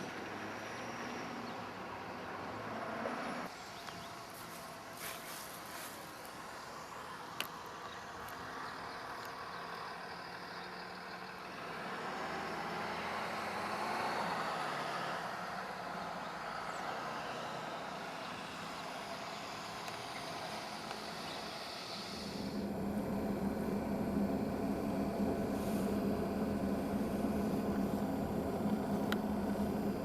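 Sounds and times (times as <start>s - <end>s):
road traffic noise: 0.0s - 30.0s
vehicle passing: 0.3s - 5.9s, 9.8s - 30.0s.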